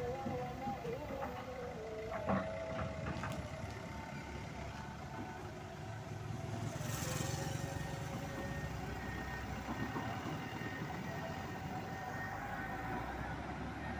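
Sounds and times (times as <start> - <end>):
diesel machinery rumbling: 0.0 - 13.9.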